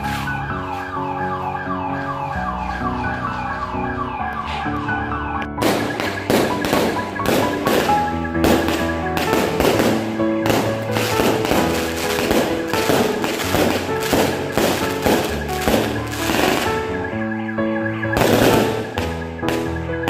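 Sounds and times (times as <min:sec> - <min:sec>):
festive song with gliding notes: 0:00.0 - 0:20.0.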